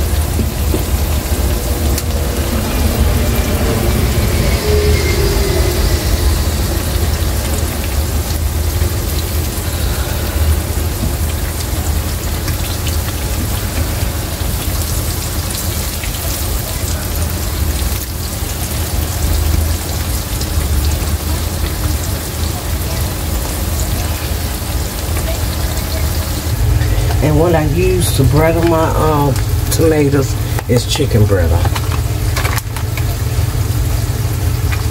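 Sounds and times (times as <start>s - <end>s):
low hum: 0.0s - 34.9s
tomatoes sizzling in frying pan: 4.6s - 34.9s.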